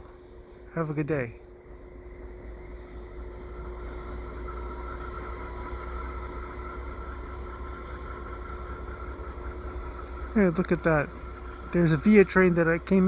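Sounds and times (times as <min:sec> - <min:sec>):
diesel locomotive rumbling: 0:00.0 - 0:13.0
steady whine: 0:00.0 - 0:13.0.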